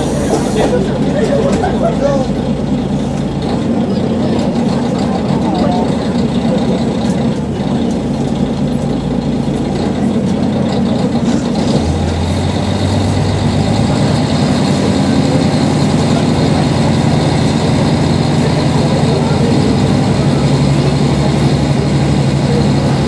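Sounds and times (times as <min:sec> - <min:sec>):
railcar engine droning: 0:00.0 - 0:23.0.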